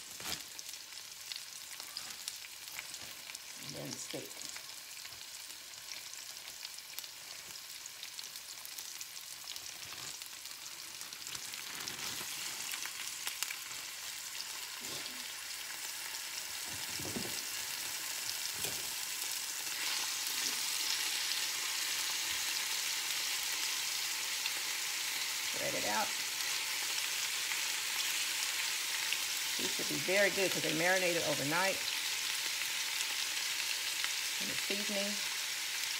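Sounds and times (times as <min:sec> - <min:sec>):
vegetables sizzling in a skillet: 0:00.0 - 0:35.9.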